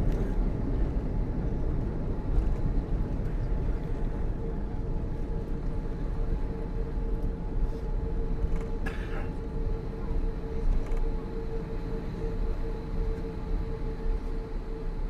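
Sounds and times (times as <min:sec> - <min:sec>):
airplane cabin rumble: 0:00.0 - 0:15.0
constant hum: 0:00.0 - 0:15.0.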